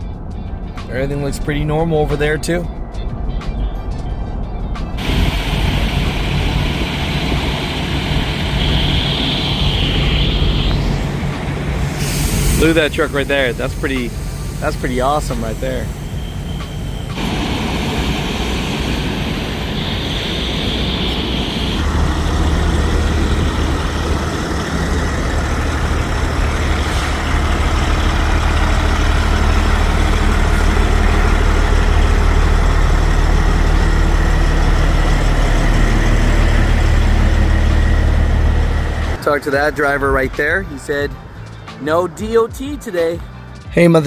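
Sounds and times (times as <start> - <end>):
vehicle engine running: 0.0 - 41.7.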